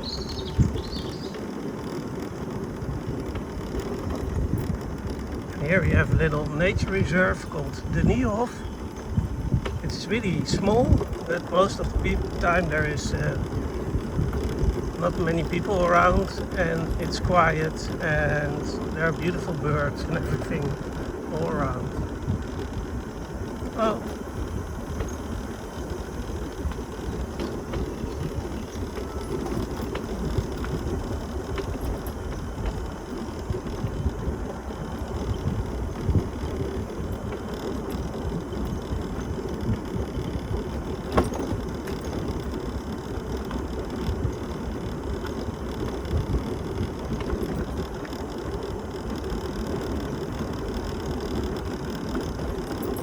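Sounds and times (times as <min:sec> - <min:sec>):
mobility scooter rattling: 0:00.0 - 0:53.0.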